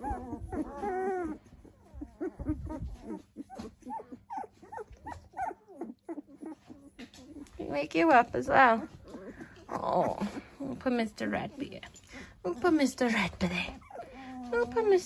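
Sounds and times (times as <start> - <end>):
puppies squeaking and whimpering: 0.0 - 7.8, 8.4 - 15.0.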